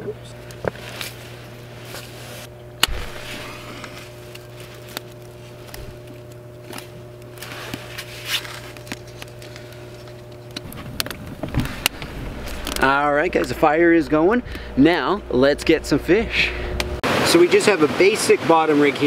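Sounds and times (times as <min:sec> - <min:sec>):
low hum: 0:00.0 - 0:17.0
kindling fire crackling: 0:00.4 - 0:16.9.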